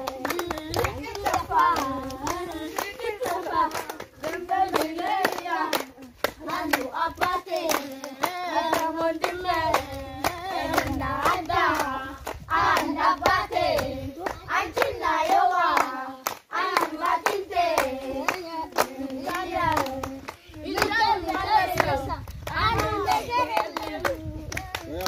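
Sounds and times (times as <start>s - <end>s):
girls and women singing: 0.0s - 25.0s
hands clapping to a beat: 0.0s - 25.0s.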